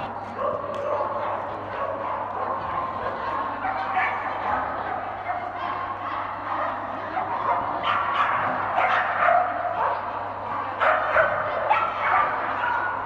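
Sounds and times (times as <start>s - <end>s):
dog barking: 0.4s - 4.3s, 4.9s - 10.1s, 10.8s - 13.0s.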